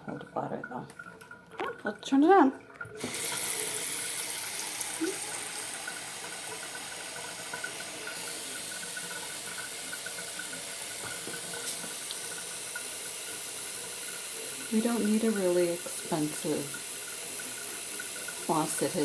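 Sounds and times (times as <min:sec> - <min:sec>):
faucet water splashing into sink: 0:00.0 - 0:19.0.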